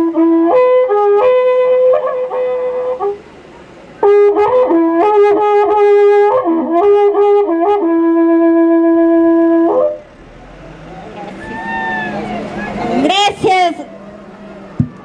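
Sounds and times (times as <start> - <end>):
cow-horn trumpet playing: 0.0 - 14.8.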